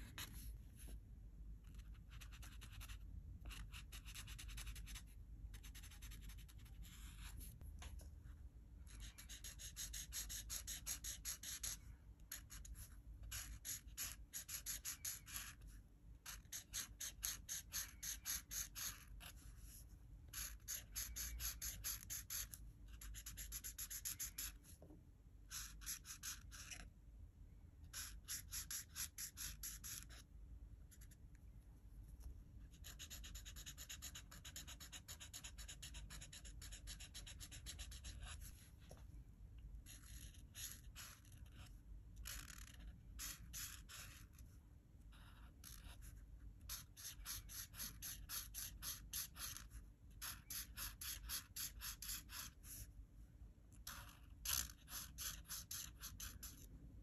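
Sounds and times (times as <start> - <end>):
marker scratching on paper: 0.0 - 1.0, 1.6 - 8.0, 8.9 - 24.8, 25.5 - 26.9, 27.9 - 30.3, 32.2 - 39.0, 39.8 - 44.5, 45.1 - 52.9, 53.8 - 56.7.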